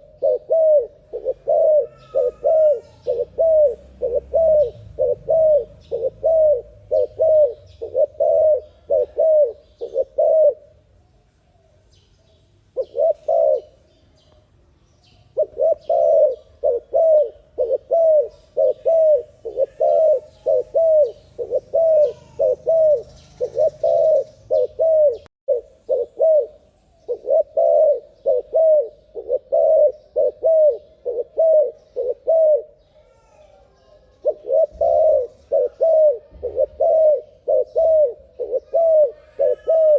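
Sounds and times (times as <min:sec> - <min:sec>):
dove cooing: 0:00.0 - 0:10.8, 0:12.8 - 0:13.8, 0:15.3 - 0:39.9.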